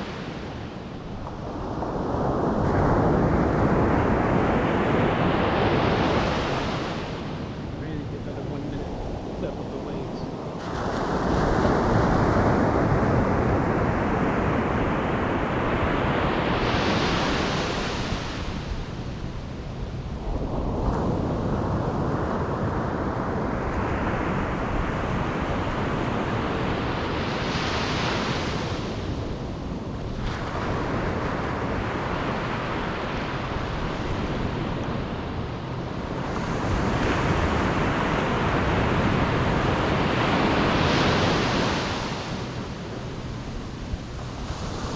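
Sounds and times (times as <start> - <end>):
ocean waves breaking on beach: 0.0 - 44.9.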